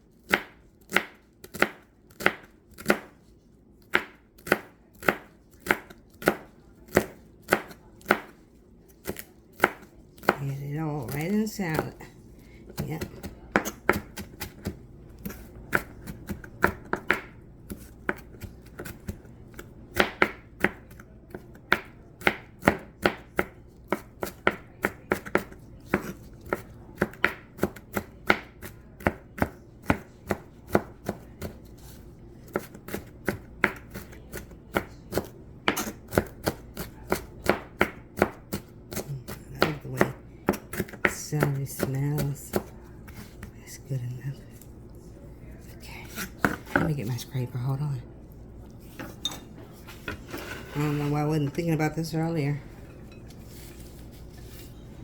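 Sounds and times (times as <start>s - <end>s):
knife chopping celery: 0.1s - 12.0s, 12.7s - 43.6s, 45.6s - 47.8s.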